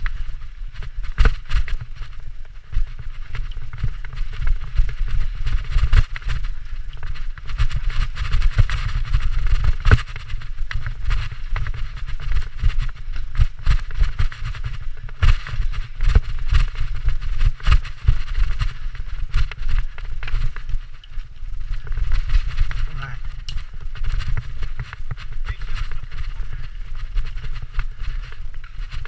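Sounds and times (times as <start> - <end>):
bike rattling over bumps: 0.0 - 29.0
bike tyres on dirt and leaves: 0.0 - 29.0.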